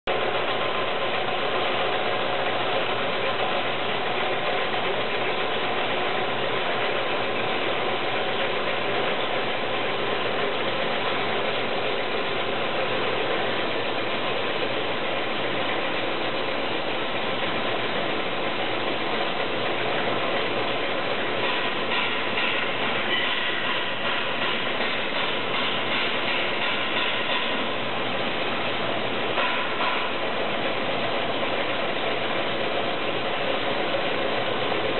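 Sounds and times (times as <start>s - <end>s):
vibratory screening machine rattling: 0.1s - 34.9s.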